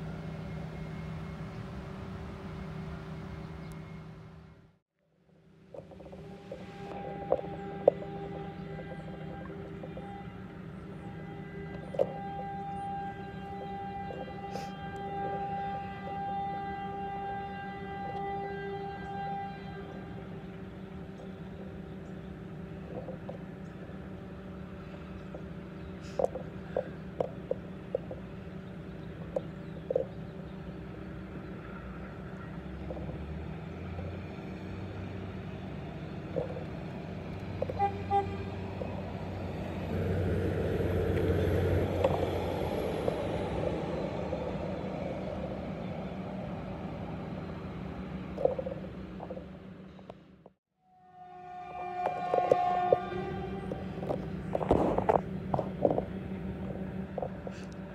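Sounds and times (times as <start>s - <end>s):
steady low hum: 0.0s - 50.6s, 52.1s - 57.9s
diesel railcar engine and wheels: 0.0s - 57.9s.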